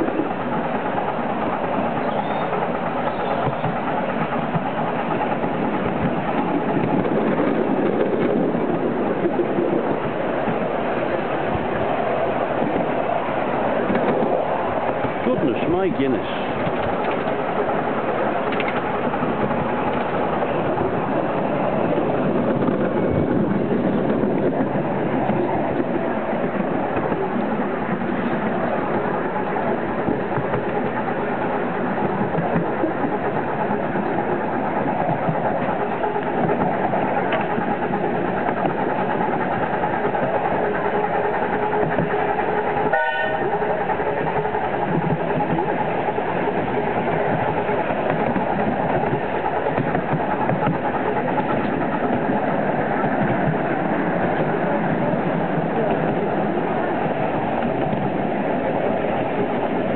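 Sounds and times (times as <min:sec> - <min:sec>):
miniature train running on track: 0:00.0 - 0:59.9.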